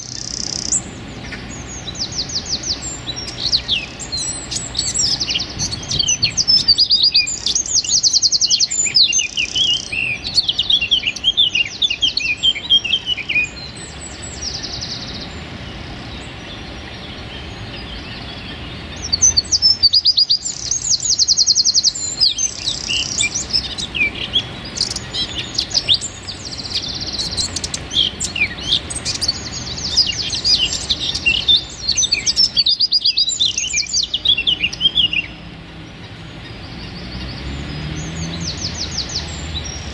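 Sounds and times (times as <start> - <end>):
wren singing rapid trills: 0.0 - 39.9.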